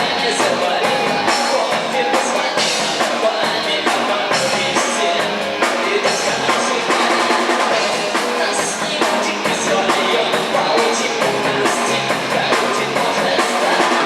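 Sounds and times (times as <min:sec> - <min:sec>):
live rock band playing: 0:00.0 - 0:14.0
snare and bass drum beat: 0:00.0 - 0:14.0.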